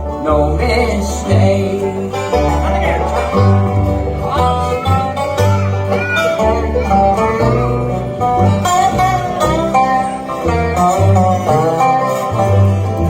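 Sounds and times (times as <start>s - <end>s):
banjo picking: 0.0s - 13.0s
bluegrass band playing live: 0.0s - 13.0s.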